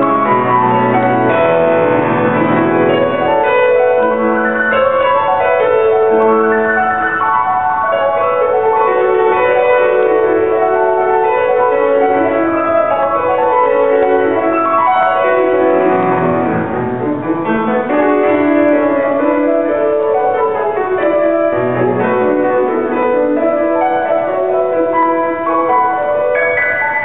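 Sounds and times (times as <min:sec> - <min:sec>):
grand piano playing: 0:00.0 - 0:27.0.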